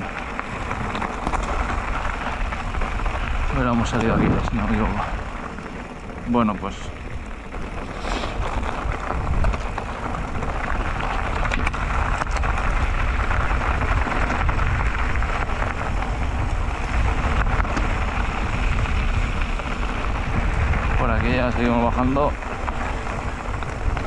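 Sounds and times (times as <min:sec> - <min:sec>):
wind on microphone: 0:00.0 - 0:05.4, 0:06.1 - 0:24.0
tyres crunching on gravel: 0:00.0 - 0:24.0.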